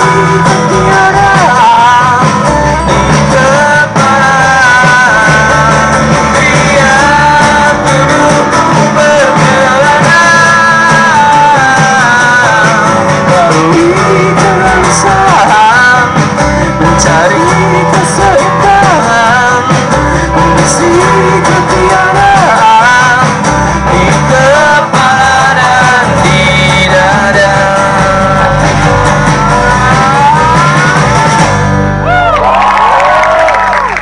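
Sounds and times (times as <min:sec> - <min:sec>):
person singing: 0:00.0 - 0:32.4
live pop-rock band playing: 0:00.0 - 0:34.0.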